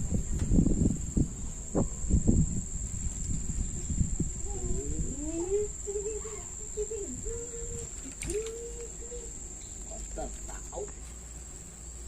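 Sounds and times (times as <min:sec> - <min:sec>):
high-pitched insect drone: 0:00.6 - 0:12.0.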